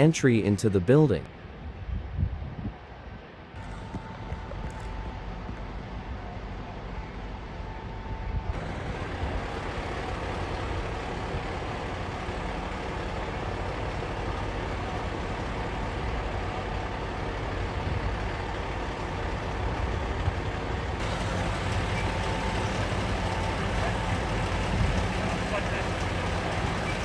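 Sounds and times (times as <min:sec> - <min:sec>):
street noise: 0:00.0 - 0:27.0
diesel engines running: 0:03.6 - 0:27.0.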